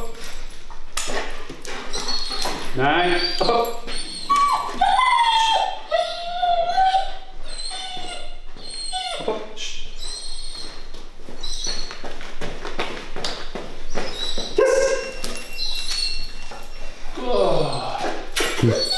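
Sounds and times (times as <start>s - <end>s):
dog whining: 1.8s - 12.0s, 13.9s - 18.9s.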